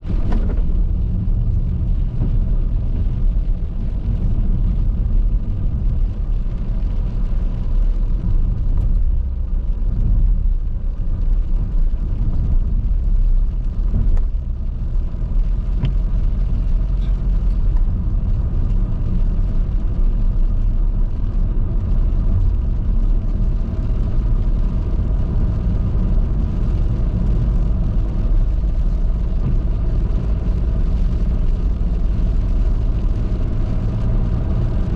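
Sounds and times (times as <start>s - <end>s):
car driving on highway: 0.0s - 34.9s.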